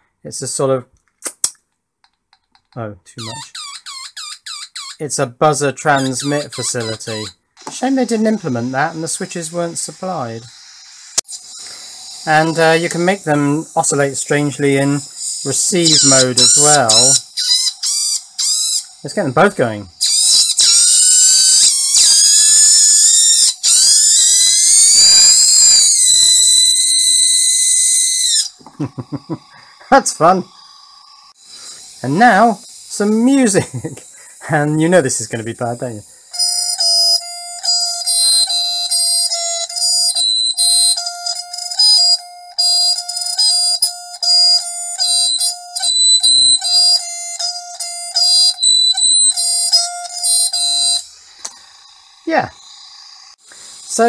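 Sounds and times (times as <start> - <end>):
shrill electronic whistling tones: 3.2 - 5.2, 5.8 - 54.0.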